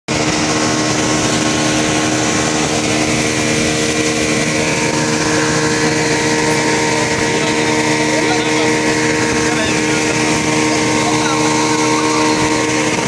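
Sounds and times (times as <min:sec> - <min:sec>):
churning water rushing: 0:00.1 - 0:13.0
speedboat engine drone: 0:00.1 - 0:13.0
wind: 0:00.1 - 0:13.0.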